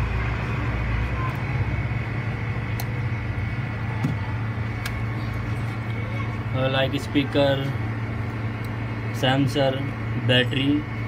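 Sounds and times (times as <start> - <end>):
workshop low hum: 0.0 - 11.0.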